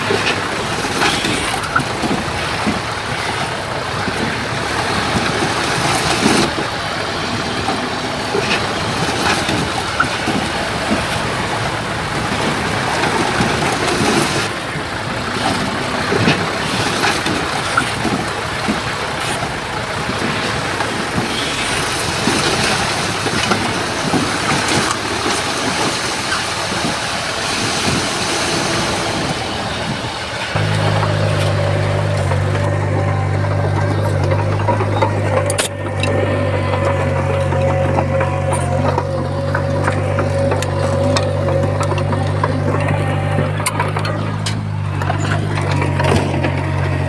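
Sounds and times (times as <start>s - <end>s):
heavy machinery engine under load: 0.0s - 47.0s
machinery clanks and knocks: 0.0s - 47.0s.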